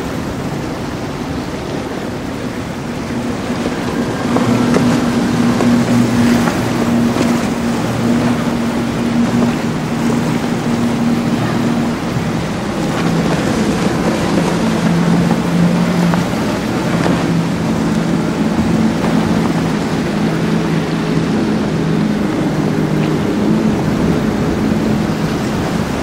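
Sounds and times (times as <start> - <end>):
outboard motors running: 0.0 - 26.0
rush of wind and water: 0.0 - 26.0.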